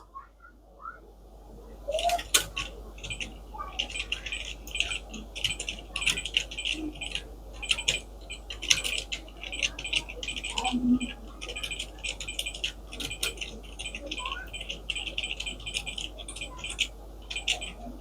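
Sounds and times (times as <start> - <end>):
fast typing on a keyboard: 1.9 - 18.0.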